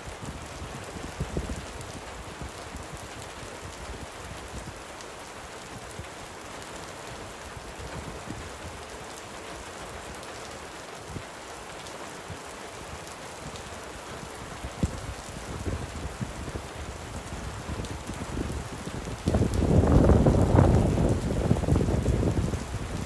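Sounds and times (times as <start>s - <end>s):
light rain falling: 0.0s - 23.0s.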